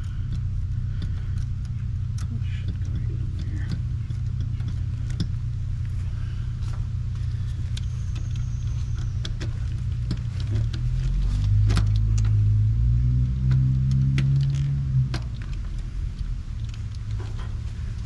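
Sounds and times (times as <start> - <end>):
deep pitched hum: 0.0 - 18.0
steady low rumble: 0.0 - 18.0.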